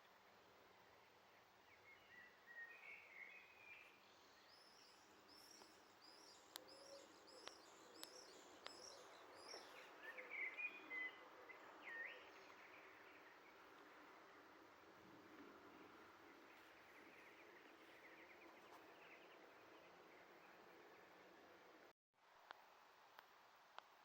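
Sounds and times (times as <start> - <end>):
birds chirping: 1.3 - 21.9.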